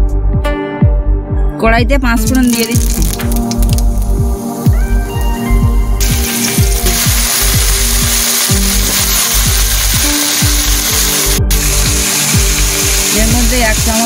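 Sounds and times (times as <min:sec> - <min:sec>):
background music with low beat: 0:00.0 - 0:14.0
seeds sizzling in hot oil: 0:02.5 - 0:14.0.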